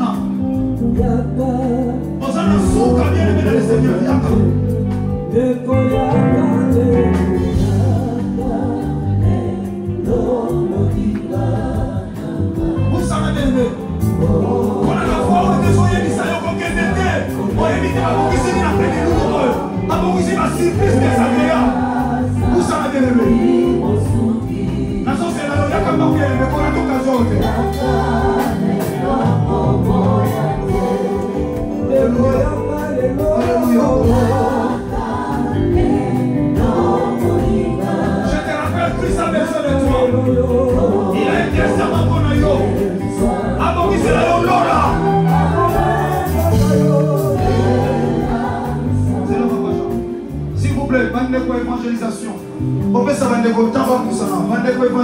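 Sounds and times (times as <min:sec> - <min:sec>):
choir singing: 0:00.0 - 0:51.8
backing music: 0:00.0 - 0:55.0.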